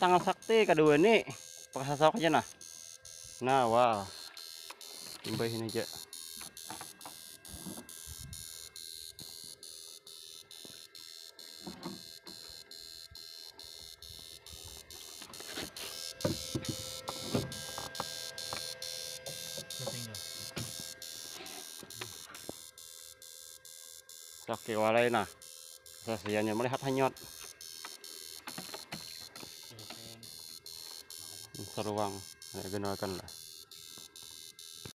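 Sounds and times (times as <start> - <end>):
electrical hum and buzz: 0.0 - 34.9
even electrical clicks: 0.0 - 34.9.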